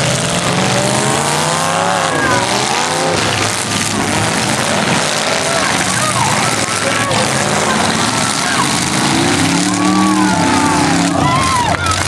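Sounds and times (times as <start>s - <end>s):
car engine revving hard: 0.0s - 12.0s
other engines running: 0.0s - 12.0s.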